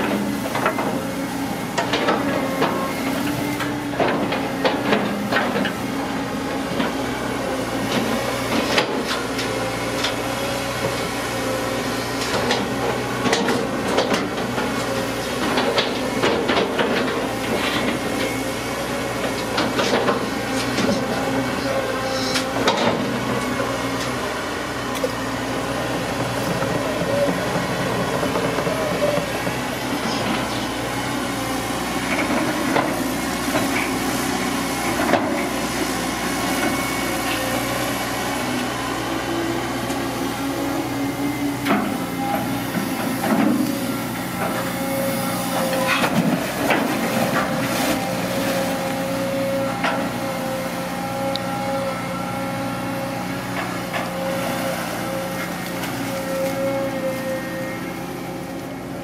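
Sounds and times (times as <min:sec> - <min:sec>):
excavator engine hum: 0:00.0 - 0:59.0.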